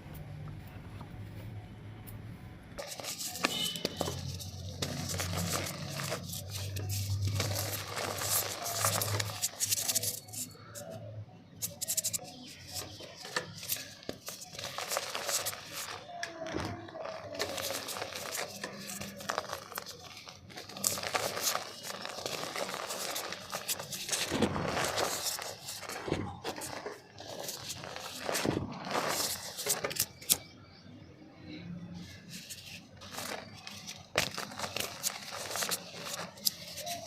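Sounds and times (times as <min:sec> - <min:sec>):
dry mud crunching in pot: 0:02.8 - 0:30.5, 0:32.0 - 0:37.0.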